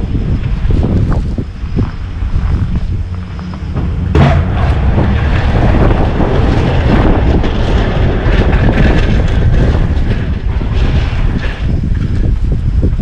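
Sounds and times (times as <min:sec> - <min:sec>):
snowplow engine running: 0:00.0 - 0:13.0
wind noise on microphone: 0:00.0 - 0:13.0.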